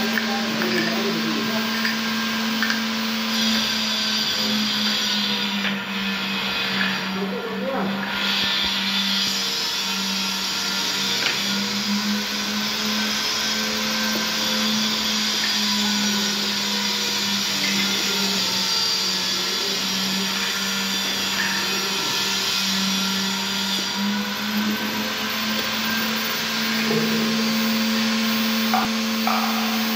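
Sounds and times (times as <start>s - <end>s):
motor humming: 0.0s - 29.9s.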